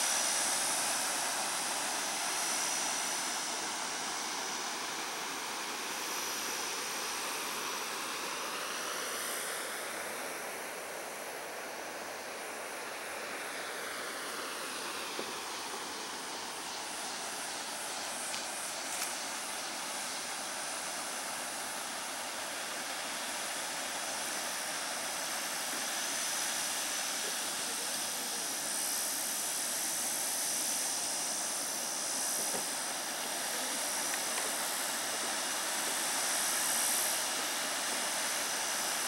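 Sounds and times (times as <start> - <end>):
waterfall pouring over rocks: 0.0 - 39.0.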